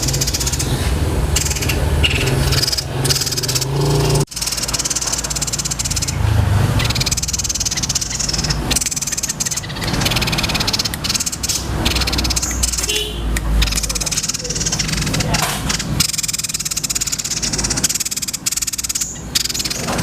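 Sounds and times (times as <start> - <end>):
songbird buzzy trills: 0.0 - 20.0.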